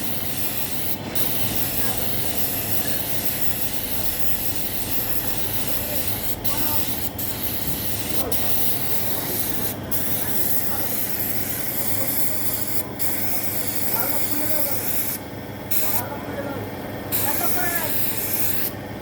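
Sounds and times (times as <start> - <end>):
paint spray gun hissing: 0.0 - 16.1, 17.1 - 18.8.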